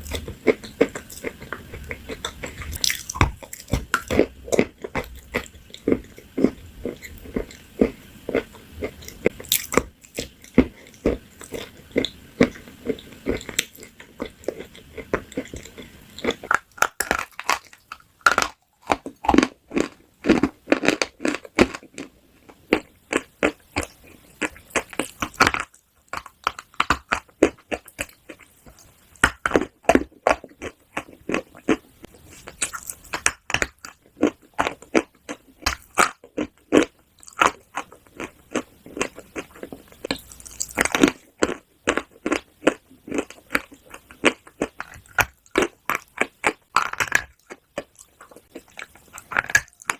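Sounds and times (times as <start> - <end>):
chewing crunchy food: 0.0 - 49.9.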